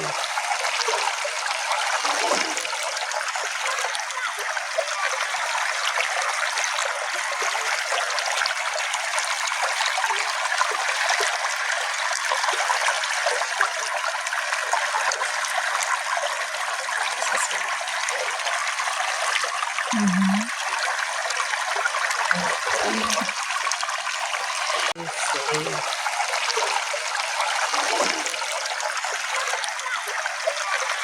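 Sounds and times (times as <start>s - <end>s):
stream trickling: 0.0s - 31.0s.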